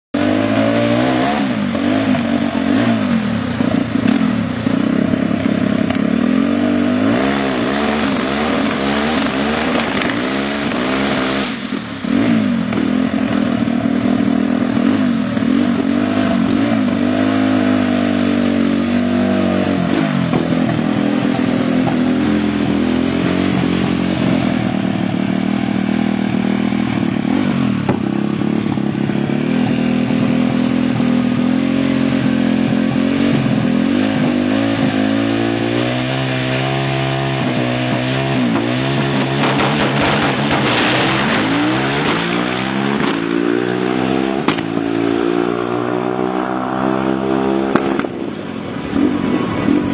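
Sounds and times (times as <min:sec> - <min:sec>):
quad engine revving hard: 0:00.1 - 0:48.3.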